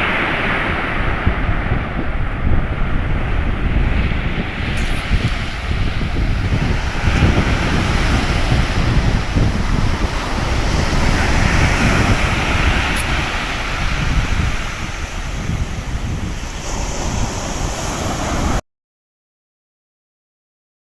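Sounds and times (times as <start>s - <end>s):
sea waves washing onto shore: 0.0s - 18.6s
wind rumbling on microphone: 0.0s - 18.6s.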